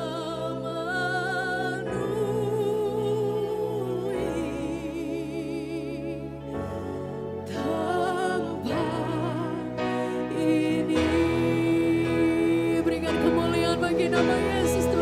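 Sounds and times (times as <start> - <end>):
person singing with vibrato: 0.0 - 15.0
sustained chord accompaniment: 0.0 - 15.0.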